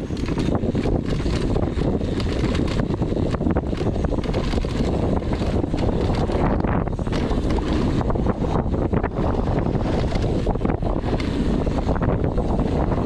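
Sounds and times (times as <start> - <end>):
bike rattling on rough trail: 0.0 - 13.0
wind buffeting microphone: 0.0 - 13.0.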